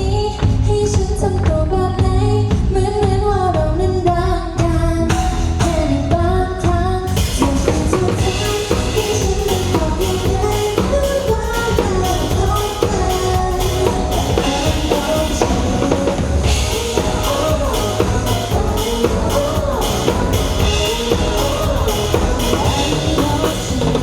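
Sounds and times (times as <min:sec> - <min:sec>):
pop song over loudspeakers: 0:00.0 - 0:24.0.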